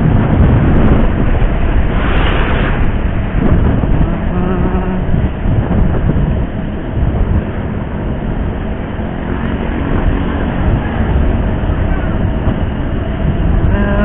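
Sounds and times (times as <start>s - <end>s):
motorcycle engine and road rumble: 0.0s - 14.0s
wind noise on microphone: 0.0s - 14.0s.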